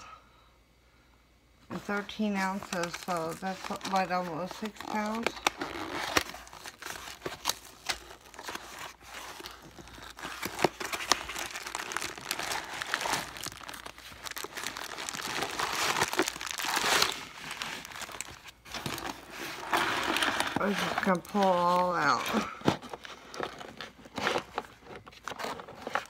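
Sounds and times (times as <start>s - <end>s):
packing material rustling: 1.8s - 26.0s.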